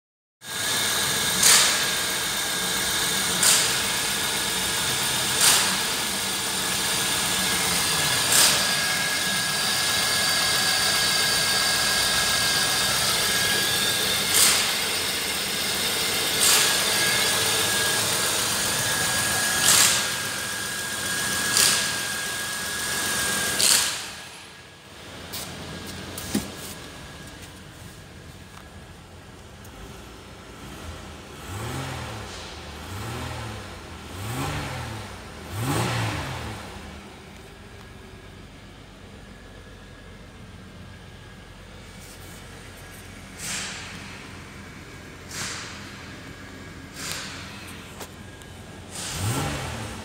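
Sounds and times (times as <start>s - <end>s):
car engine idling: 0.5s - 31.6s, 35.0s - 35.8s, 36.5s - 50.0s.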